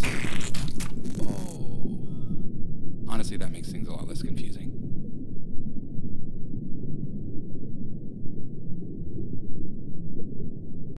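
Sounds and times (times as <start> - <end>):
low muffled rumbling: 1.0 - 11.0.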